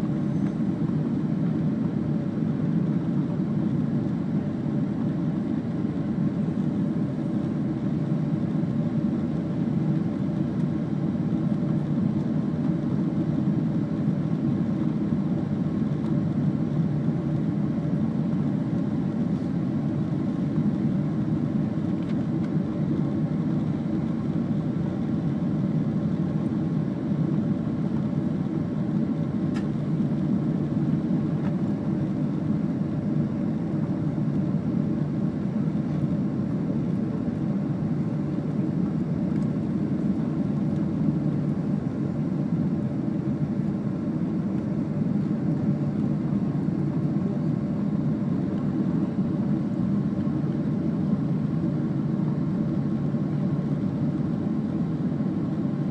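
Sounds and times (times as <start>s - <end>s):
jet cabin engine drone: 0.0s - 55.9s.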